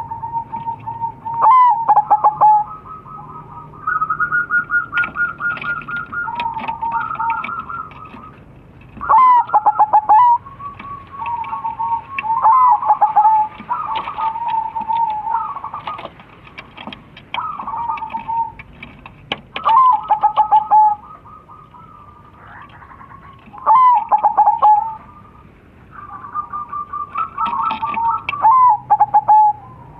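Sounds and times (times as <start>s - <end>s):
doves calling: 0.0s - 29.9s.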